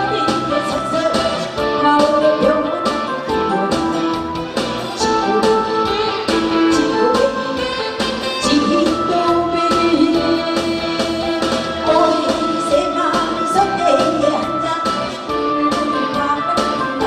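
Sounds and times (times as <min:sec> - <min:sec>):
woman singing into a microphone: 0:00.0 - 0:04.2, 0:05.0 - 0:17.0
backing track with steady beat: 0:00.0 - 0:17.0.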